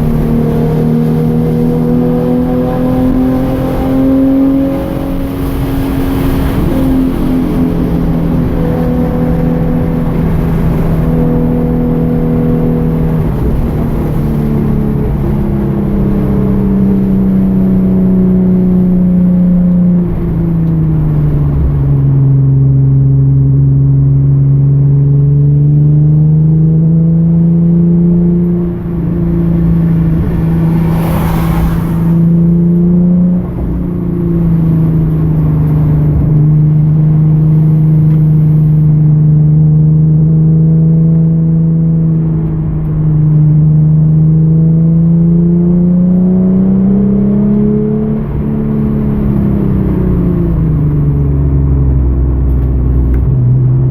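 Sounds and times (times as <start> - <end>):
car engine accelerating and shifting: 0.0 - 53.9.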